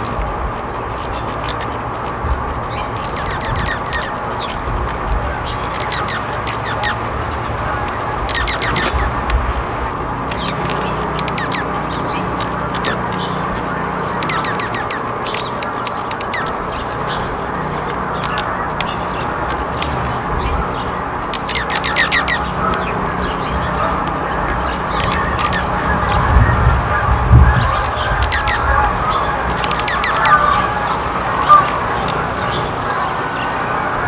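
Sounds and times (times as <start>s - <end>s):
low rumbles: 0.0s - 34.0s
small birds chirping: 0.0s - 34.0s.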